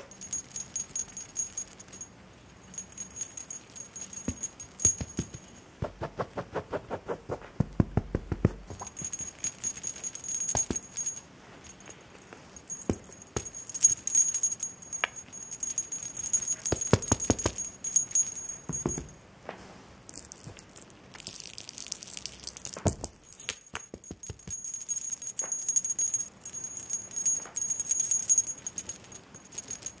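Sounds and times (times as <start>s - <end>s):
cat toy bell jingling: 0.0s - 5.8s, 8.6s - 19.2s, 20.0s - 30.0s.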